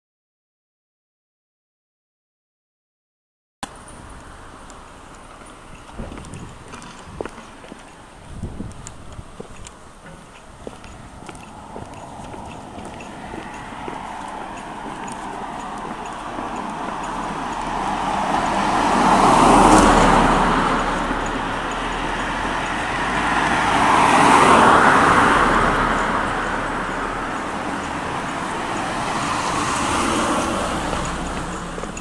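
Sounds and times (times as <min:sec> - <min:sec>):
cars passing on road: 0:03.6 - 0:32.0.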